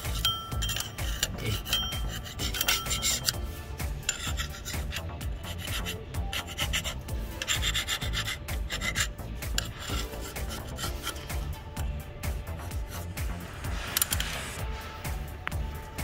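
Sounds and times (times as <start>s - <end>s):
scraper rasping on metal: 0.0s - 15.3s.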